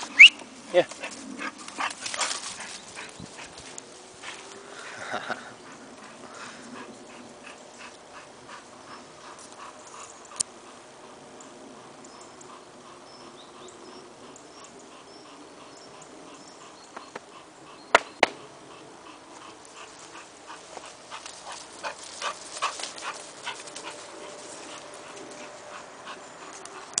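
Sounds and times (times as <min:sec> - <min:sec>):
dog panting: 0:00.7 - 0:27.0.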